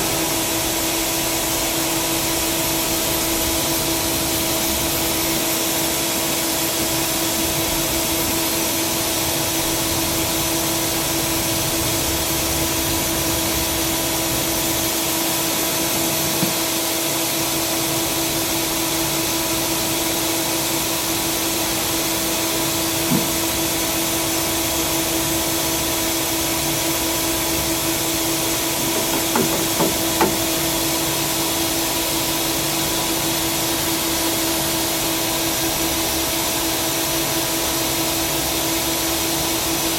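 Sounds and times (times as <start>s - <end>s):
lathe machine running: 0.0s - 36.0s.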